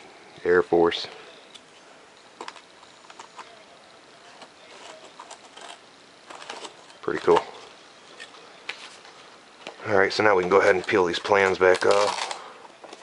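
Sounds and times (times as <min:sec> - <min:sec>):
faint clicks and crinkles: 0:01.0 - 0:13.0.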